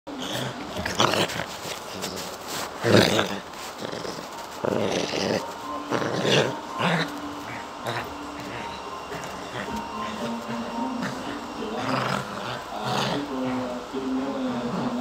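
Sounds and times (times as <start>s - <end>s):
dog growling: 0.1s - 15.0s.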